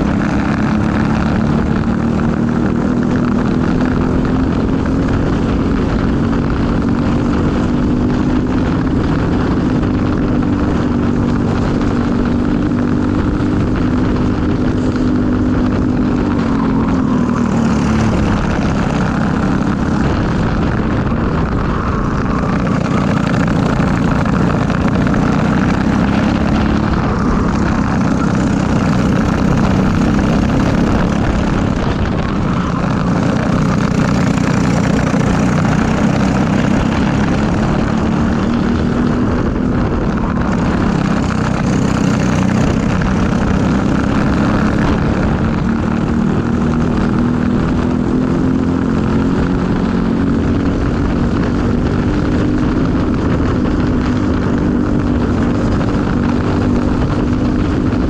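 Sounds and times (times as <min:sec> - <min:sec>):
kart engine running hard: 0:00.0 - 0:58.0
wind and tyre noise: 0:00.0 - 0:58.0.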